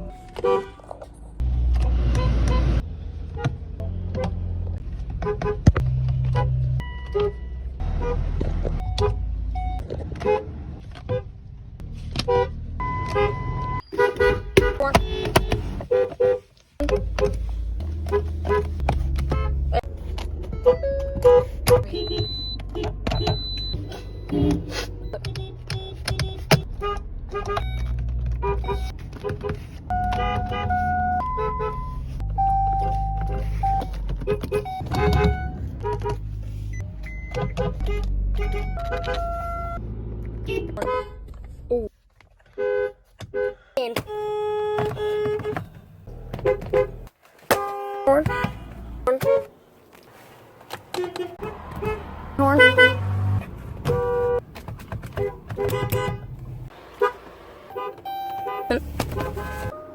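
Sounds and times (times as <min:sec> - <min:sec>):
car horns honking: 0:00.0 - 0:01.0, 0:01.8 - 0:11.4, 0:12.1 - 0:41.4, 0:42.5 - 0:49.6, 0:50.6 - 0:59.9.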